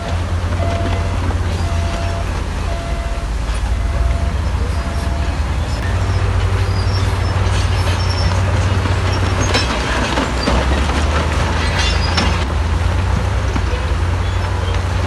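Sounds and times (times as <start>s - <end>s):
bulldozer diesel engine rumbling: 0.0s - 15.0s
crawler tracks clanking and squeaking: 0.0s - 15.0s.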